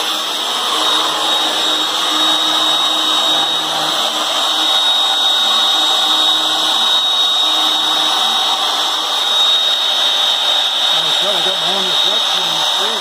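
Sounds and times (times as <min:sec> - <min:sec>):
router motor whine: 0:00.0 - 0:13.0.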